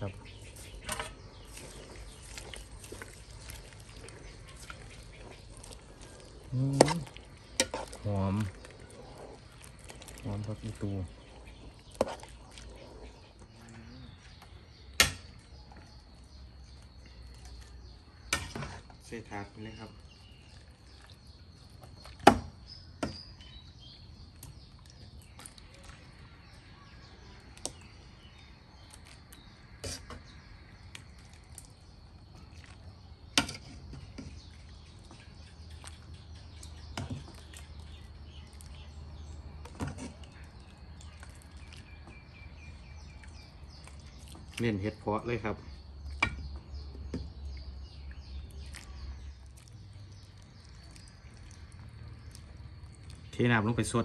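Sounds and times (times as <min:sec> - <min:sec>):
faint bird chirps: 0:00.0 - 0:54.0.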